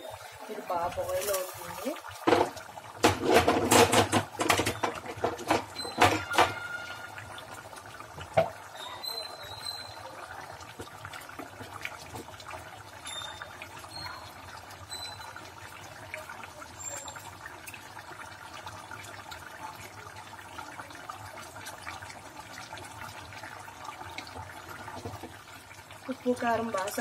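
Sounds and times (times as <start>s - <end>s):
curry bubbling in a pan: 0.0s - 27.0s.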